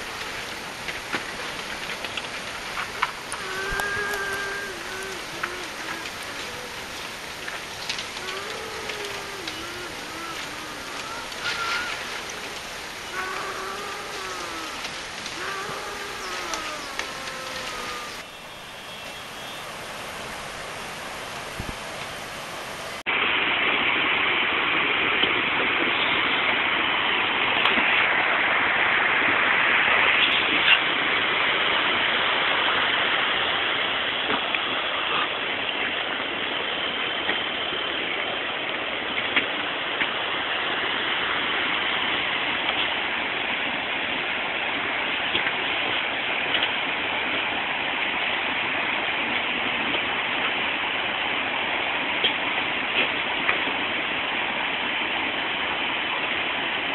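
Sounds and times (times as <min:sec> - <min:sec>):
floodwater rushing: 0:00.0 - 0:56.9.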